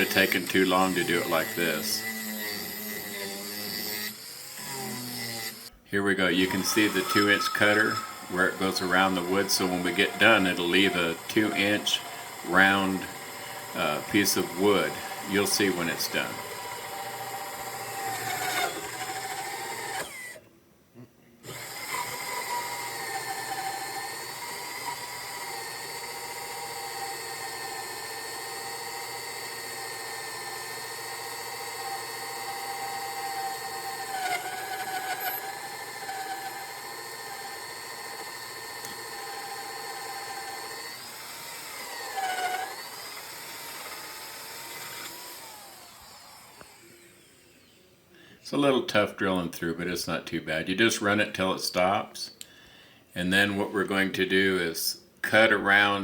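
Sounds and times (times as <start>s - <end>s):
power drill with hole saw whining: 0.0s - 20.5s, 21.4s - 48.0s.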